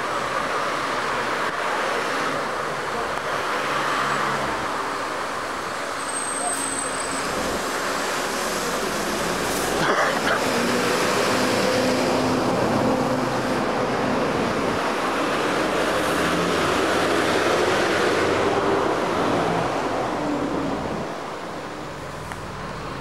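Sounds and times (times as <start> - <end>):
traffic passing: 0.0 - 23.0.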